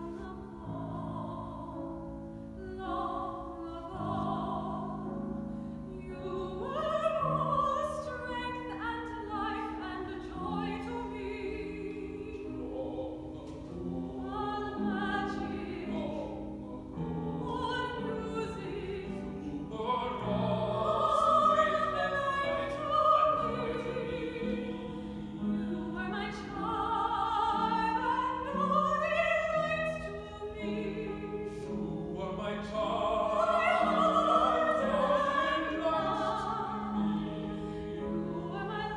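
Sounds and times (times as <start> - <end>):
woman singing classical style: 0.0 - 38.9.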